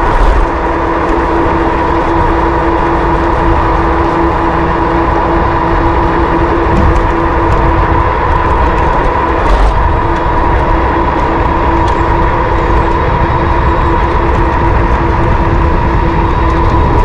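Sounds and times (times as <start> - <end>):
steady electric motor tones: 0.0 - 17.0
wind rumble on microphone: 0.0 - 17.0.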